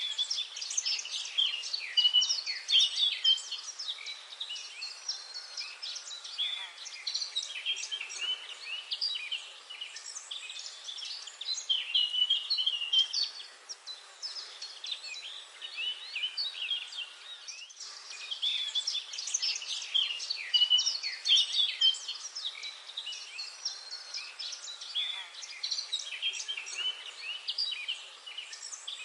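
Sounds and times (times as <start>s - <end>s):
faint outdoor hiss: 0.0s - 29.0s
songbirds chorus: 0.0s - 29.0s.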